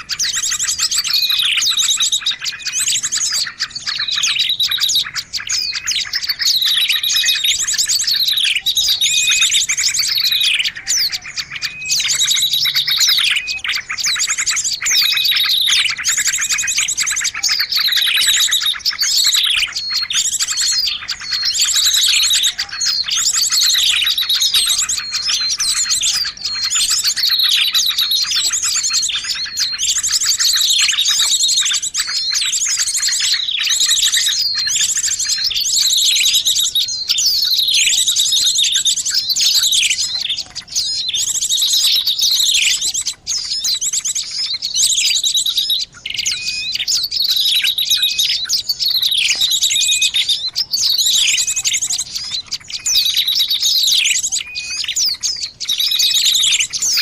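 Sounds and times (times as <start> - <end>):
small songbirds chirping and trilling: 0.0 - 57.0.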